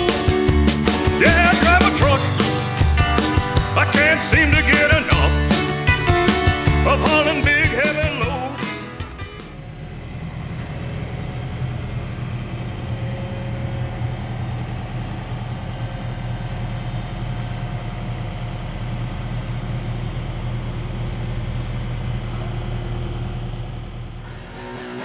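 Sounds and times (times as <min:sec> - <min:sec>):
forklift engine humming: 0:00.0 - 0:25.0.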